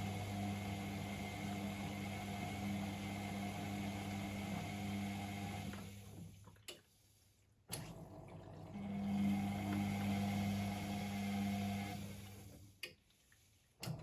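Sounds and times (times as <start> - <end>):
washing machine motor hum: 0.0 - 6.7, 7.7 - 12.9.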